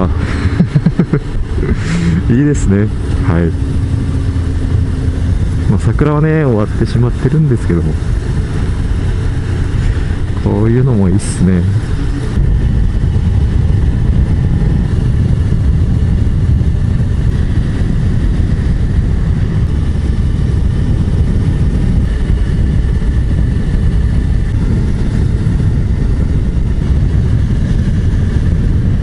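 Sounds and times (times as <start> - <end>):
motorcycle engine rumble: 0.0 - 29.0.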